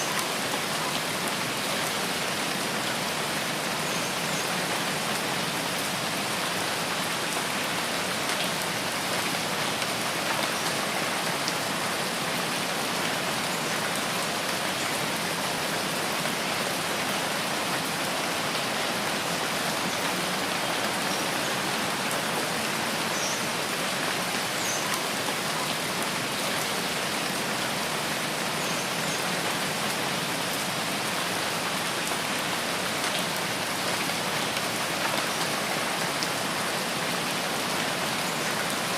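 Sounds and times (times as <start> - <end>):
rain falling on foliage: 0.0 - 38.9.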